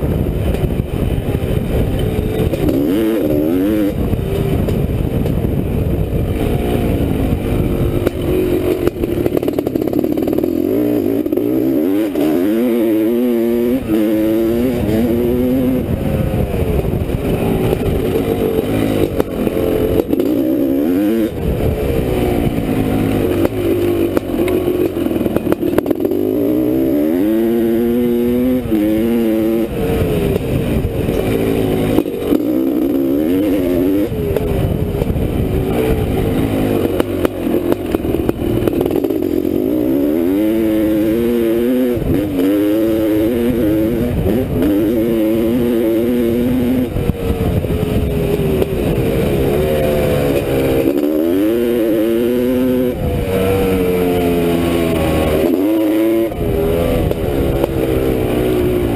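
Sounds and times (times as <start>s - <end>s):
two-stroke motorcycle engine revving: 0.0s - 58.9s.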